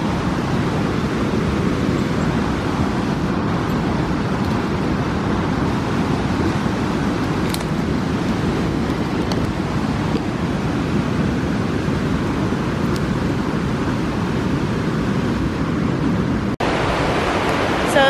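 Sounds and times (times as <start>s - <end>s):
low rushing noise: 0.0s - 18.0s.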